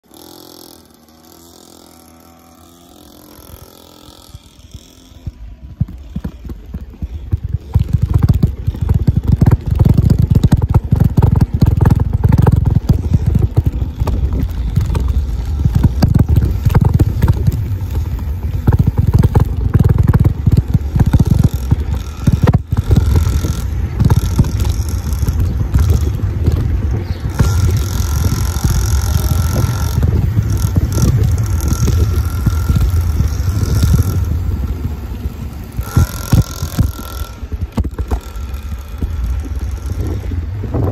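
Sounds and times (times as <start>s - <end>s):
distant small motorbike engine: 0.0s - 40.9s
low rumbling and buffeting: 2.2s - 40.9s.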